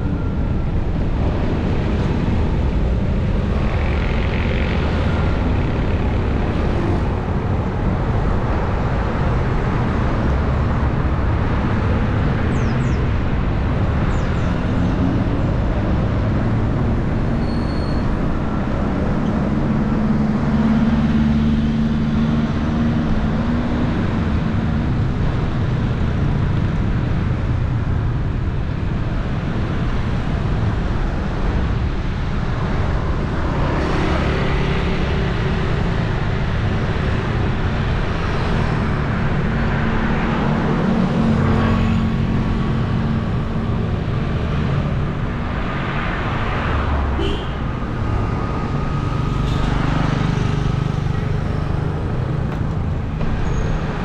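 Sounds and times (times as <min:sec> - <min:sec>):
vehicles passing on wet street: 0:00.0 - 0:17.4, 0:18.1 - 0:54.0.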